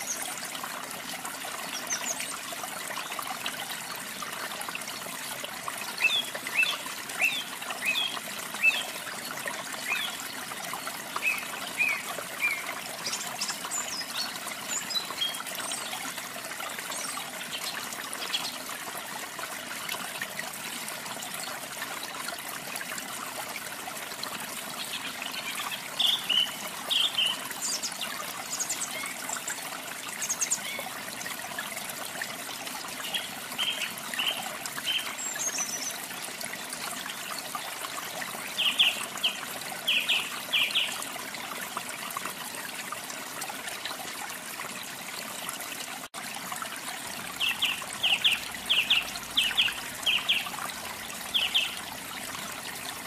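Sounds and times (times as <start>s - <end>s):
water trickling: 0.0s - 53.0s.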